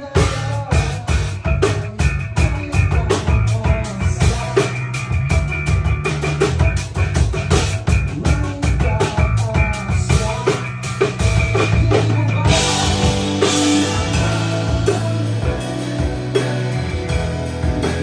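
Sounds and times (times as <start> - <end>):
rapid drumming: 0.0 - 18.0
rock band playing: 0.0 - 18.0.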